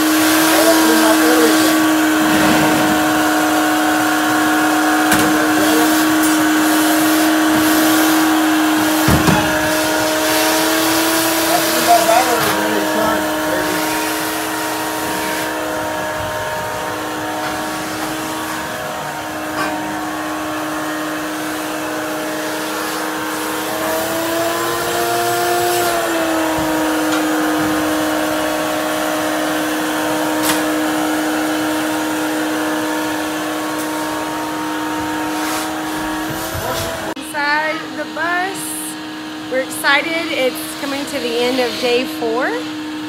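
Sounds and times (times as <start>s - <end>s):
vacuum cleaner motor whining: 0.0s - 43.0s.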